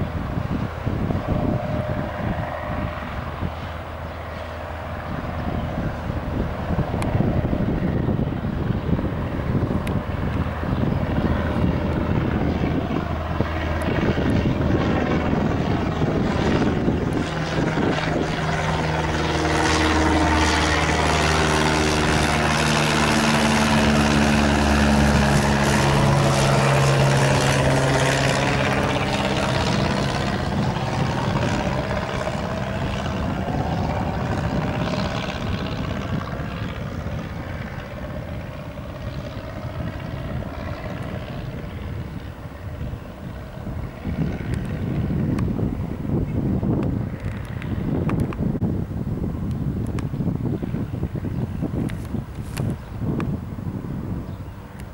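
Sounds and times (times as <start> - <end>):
propeller plane engine droning: 0.0 - 54.9.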